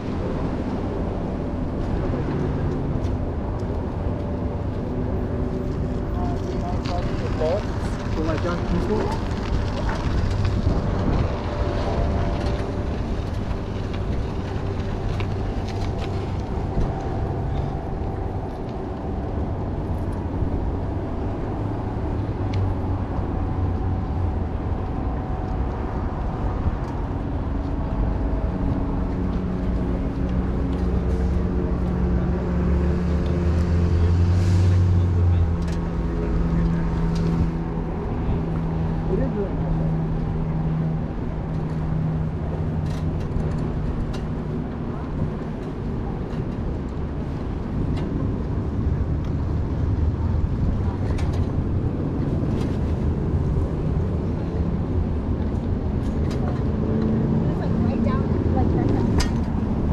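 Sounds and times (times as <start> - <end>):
road noise: 0.0 - 59.9
vehicle engine: 0.0 - 59.9.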